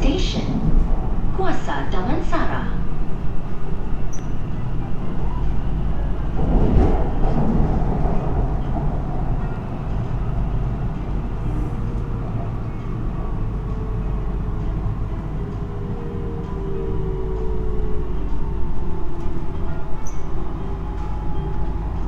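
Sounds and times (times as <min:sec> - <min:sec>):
noisy train surge: 0:00.0 - 0:22.0
train running low rumble: 0:00.0 - 0:22.0.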